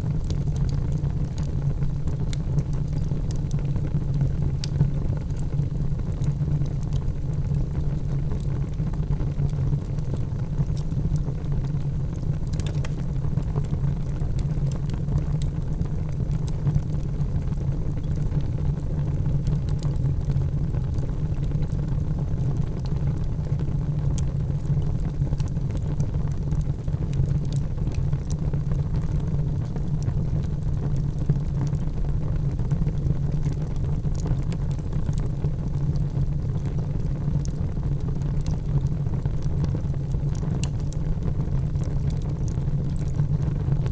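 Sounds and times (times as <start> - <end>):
faint fire crackles and pops: 0.0 - 43.9
low rumble of flames: 0.0 - 43.9.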